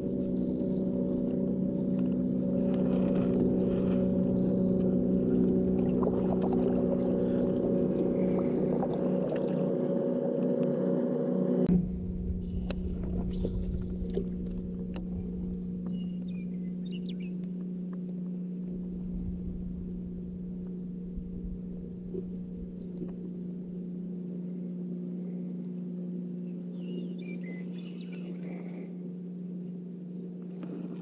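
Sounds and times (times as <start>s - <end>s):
faint low rumble: 0.0s - 31.0s
steady low hum: 0.0s - 31.0s.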